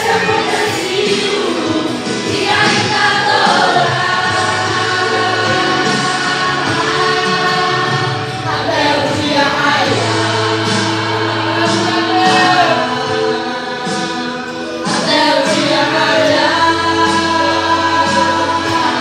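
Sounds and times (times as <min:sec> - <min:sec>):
group singing a hymn: 0:00.0 - 0:19.0
held instrumental chords: 0:00.0 - 0:19.0.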